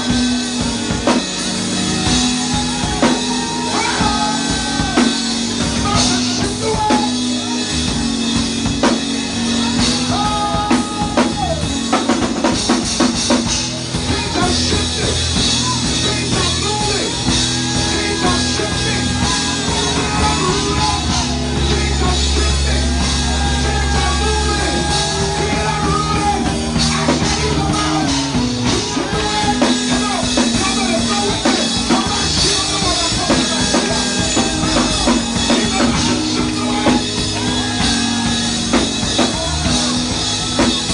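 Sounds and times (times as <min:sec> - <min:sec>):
worship band music: 0:00.0 - 0:40.9.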